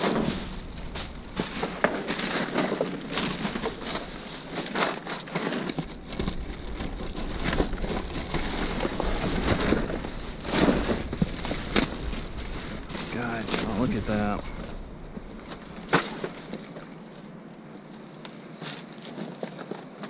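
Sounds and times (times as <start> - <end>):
plastic bags rustling and crinkling: 0.0 - 17.3
low steady rumble: 0.0 - 17.8.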